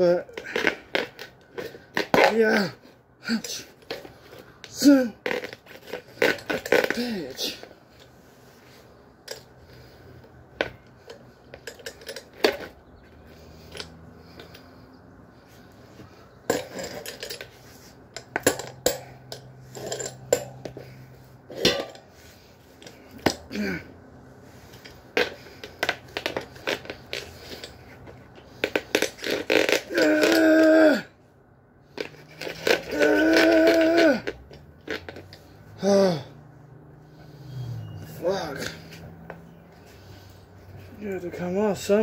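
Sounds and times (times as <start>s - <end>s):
rubber tyre creaking on rim: 0.0s - 42.0s.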